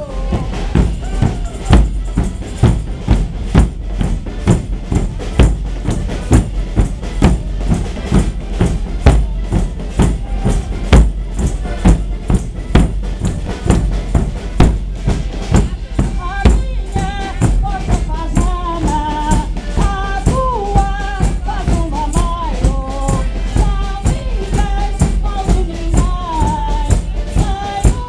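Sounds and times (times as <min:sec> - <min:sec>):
bass drums drumming: 0:00.0 - 0:28.0.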